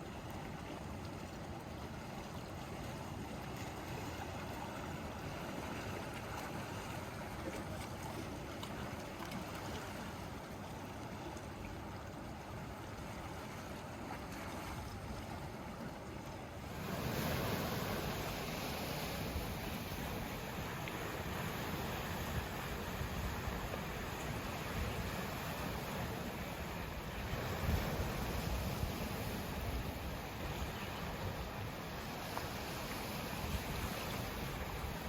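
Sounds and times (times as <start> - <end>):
sea waves washing ashore: 0.0 - 35.0.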